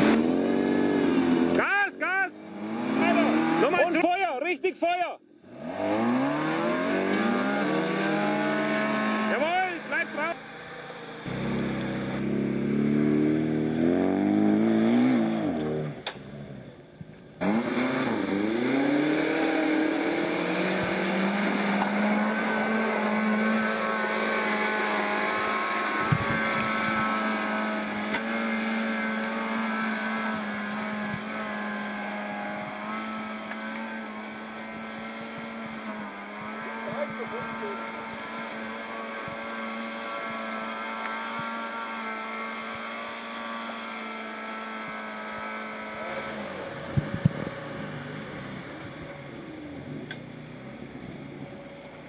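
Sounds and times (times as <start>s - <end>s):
off-road engines revving: 0.0s - 52.0s.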